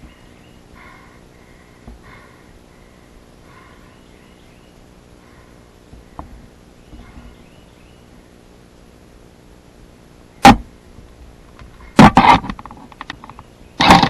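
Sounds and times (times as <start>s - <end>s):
faint outdoor background: 0.0s - 14.0s.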